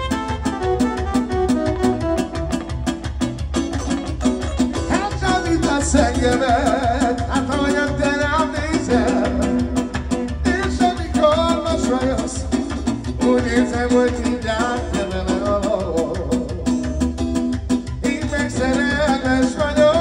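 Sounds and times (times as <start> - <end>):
keyboard and guitar band music: 0.0 - 20.0.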